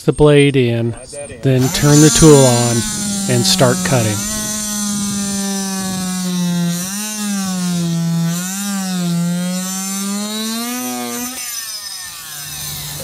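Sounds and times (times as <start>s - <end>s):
oscillating multi-tool buzzing: 1.6s - 13.0s.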